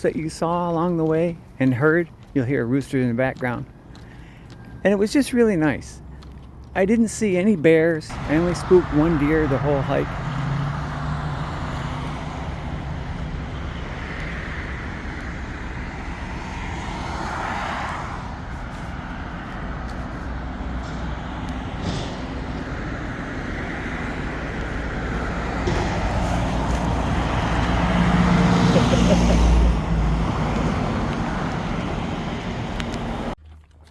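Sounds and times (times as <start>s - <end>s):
road traffic rushing: 3.5s - 33.4s.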